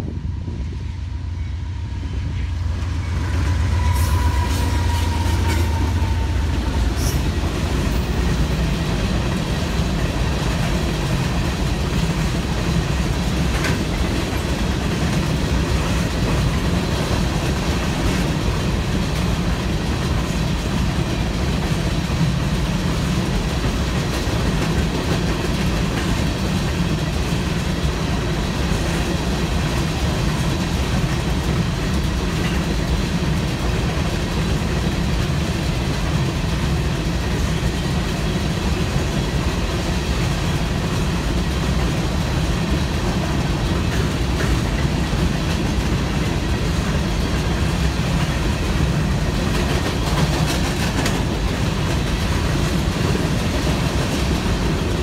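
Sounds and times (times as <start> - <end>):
locomotive rumble and whine: 0.0 - 55.0
train wheels clickety-clack: 0.0 - 55.0.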